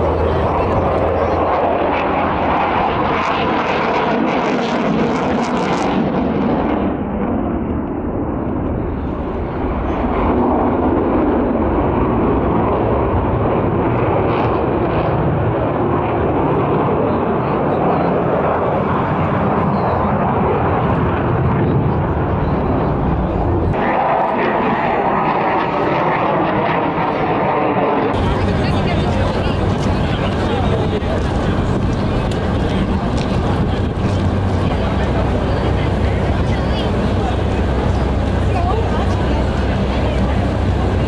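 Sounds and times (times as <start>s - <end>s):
jet engine roar: 0.0s - 41.0s.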